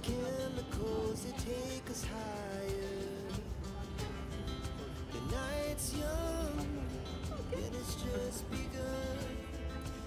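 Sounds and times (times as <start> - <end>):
song with sung melody and beat: 0.0 - 10.0.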